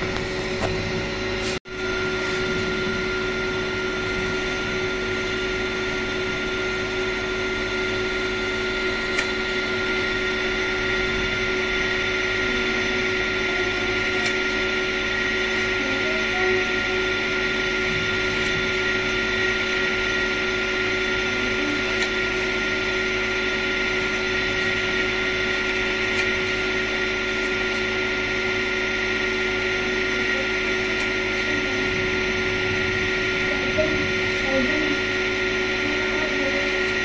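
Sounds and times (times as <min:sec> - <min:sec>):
steady motor hum: 0:00.0 - 0:37.0.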